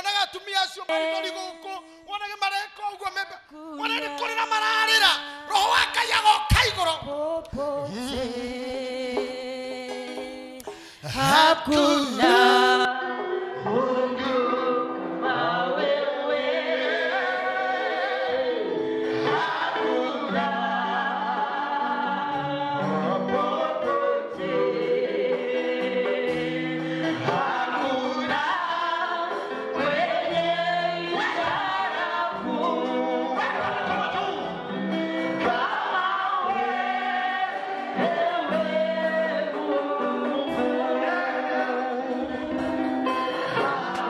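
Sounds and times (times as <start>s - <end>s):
group singing gospel song: 0.0s - 44.0s.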